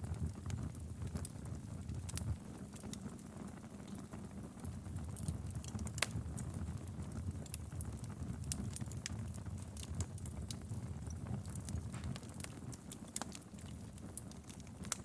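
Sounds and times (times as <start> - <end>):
fire rumbling: 0.0 - 15.0
wood fire crackling and popping: 0.0 - 15.0.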